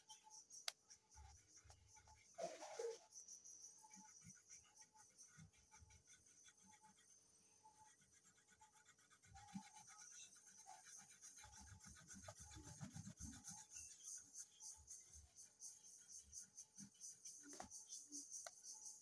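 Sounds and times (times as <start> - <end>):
colouring tool scratching on paper: 0.8 - 18.3.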